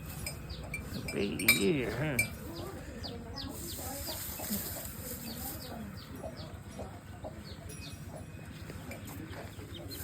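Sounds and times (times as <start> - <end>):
chickens clucking: 0.1 - 10.0.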